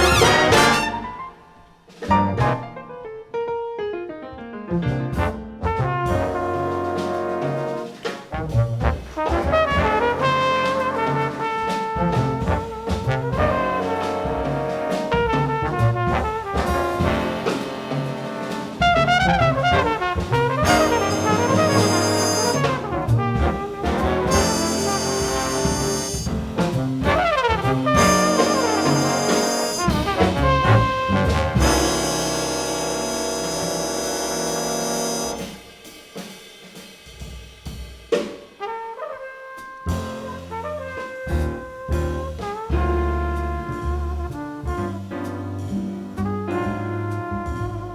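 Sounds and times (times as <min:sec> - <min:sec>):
brass section: 0:00.0 - 0:02.9, 0:05.2 - 0:36.0, 0:38.6 - 0:45.4, 0:46.1 - 0:47.9
big band jazz: 0:00.0 - 0:03.1, 0:04.8 - 0:47.9
drums: 0:00.0 - 0:03.1, 0:04.8 - 0:47.9.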